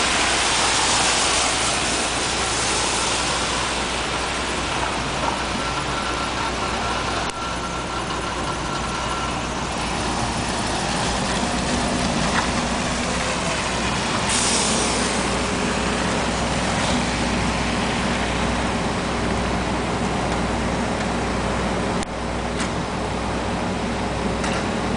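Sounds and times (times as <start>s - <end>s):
garbage truck diesel engine: 0.0s - 24.9s
street traffic: 0.0s - 24.9s.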